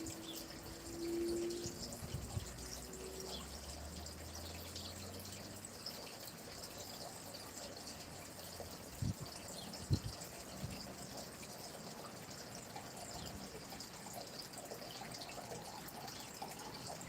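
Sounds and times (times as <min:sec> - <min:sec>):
running water flowing: 0:00.0 - 0:17.0.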